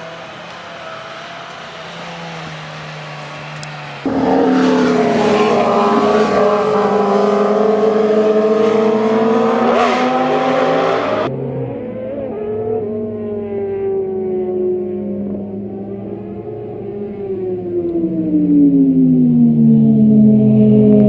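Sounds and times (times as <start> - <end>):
motorcycle engine at high revs: 3.0 - 20.9.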